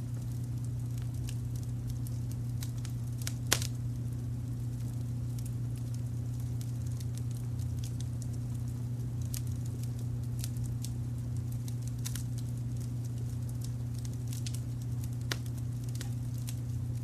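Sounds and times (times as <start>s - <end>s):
low rumble of brown noise: 0.0s - 17.0s
wood fire crackling and popping: 0.0s - 17.0s.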